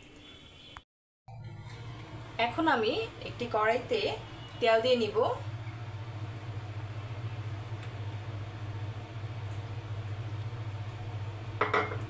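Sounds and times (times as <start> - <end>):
steady low hum: 1.3 - 12.0.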